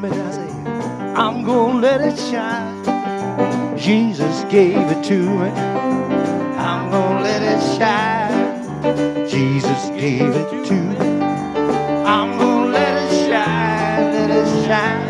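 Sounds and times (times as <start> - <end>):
man singing with vibrato: 0.0 - 2.9, 3.7 - 5.7, 6.5 - 11.2, 12.0 - 15.0
electric keyboard chords: 0.0 - 15.0.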